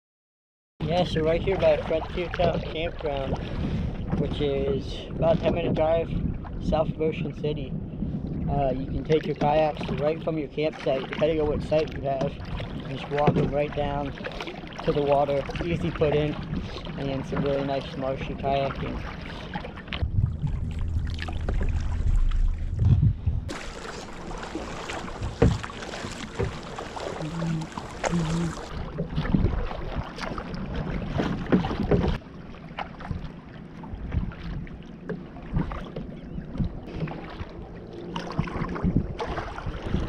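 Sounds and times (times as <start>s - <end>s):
paddle dipping and splashing: 0.8s - 6.8s, 8.0s - 40.0s
wind rumbling on microphone: 0.8s - 32.2s, 33.0s - 40.0s
water lapping at plastic hull: 0.8s - 40.0s.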